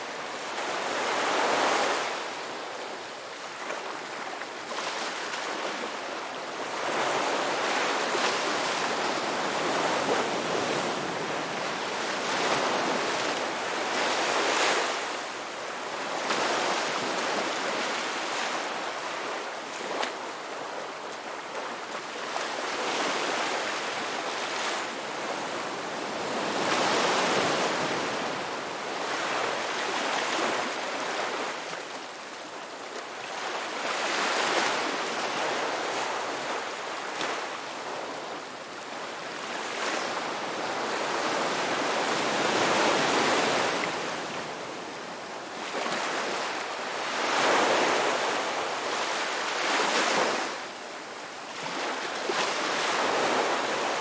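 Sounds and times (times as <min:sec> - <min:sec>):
sea waves breaking on shore: 0:03.4 - 0:32.4, 0:33.1 - 0:50.7, 0:51.5 - 0:54.0.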